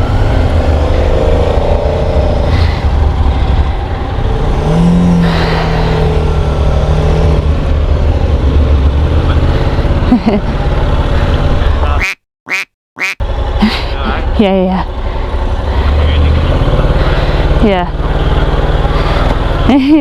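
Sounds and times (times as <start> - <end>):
motorcycle engine accelerating: 0.0 - 12.1, 13.2 - 20.0
wind and road noise: 0.0 - 20.0.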